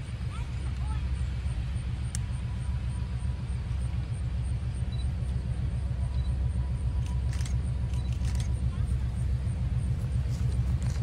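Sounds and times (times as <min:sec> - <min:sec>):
distant diesel locomotive rumble: 0:00.0 - 0:11.0.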